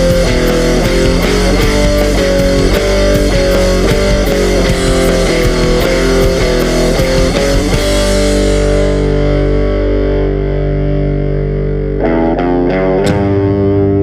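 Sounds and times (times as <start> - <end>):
bass guitar: 0.0 - 14.0
distorted electric guitar: 0.0 - 14.0.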